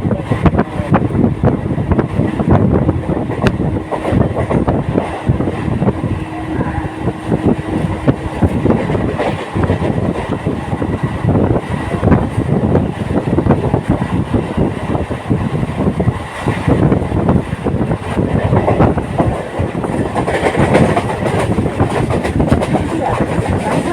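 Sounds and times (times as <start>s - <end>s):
train wheels clattering on rails: 0.1s - 23.9s.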